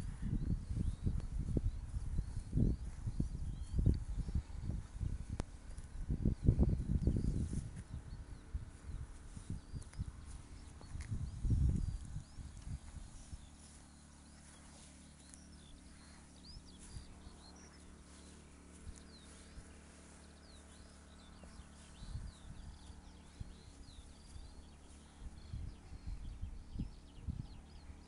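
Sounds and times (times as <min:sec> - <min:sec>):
low steady hum: 0:00.0 - 0:28.0
small birds chirping: 0:00.0 - 0:28.0.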